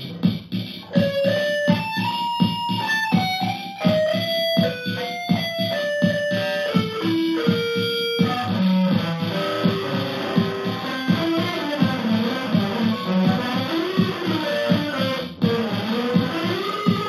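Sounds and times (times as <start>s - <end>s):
electric guitar jazz melody: 0.0s - 17.0s.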